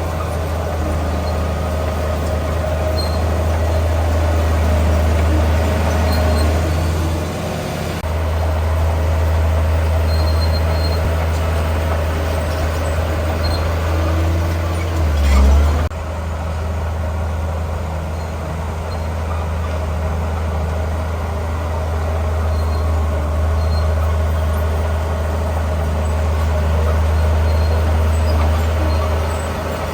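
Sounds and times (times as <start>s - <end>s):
heavy diesel engine under load: 0.0s - 29.9s.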